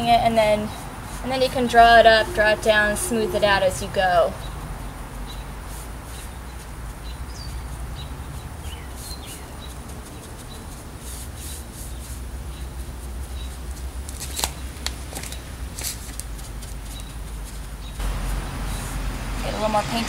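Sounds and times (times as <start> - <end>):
paintbrush strokes on wood: 0.6 - 4.3, 5.1 - 14.0, 16.2 - 20.0.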